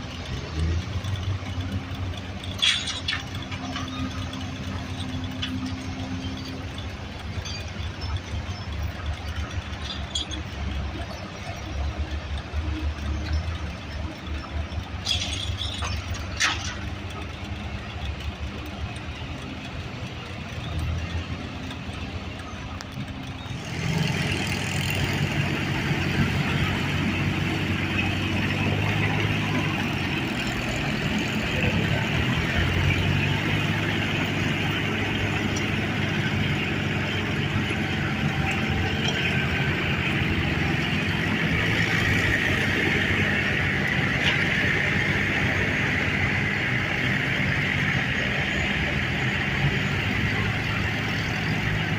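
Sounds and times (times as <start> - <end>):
engine running: 0.0 - 51.9.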